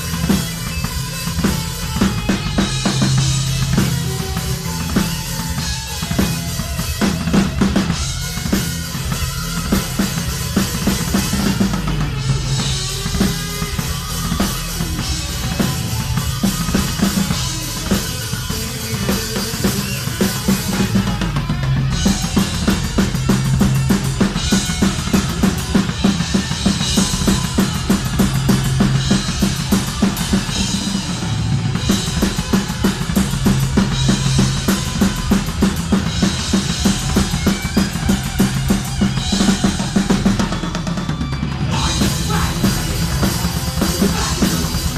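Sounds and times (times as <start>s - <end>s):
drum kit with heavy bass drum: 0.0s - 44.9s
live band playing: 0.0s - 44.9s.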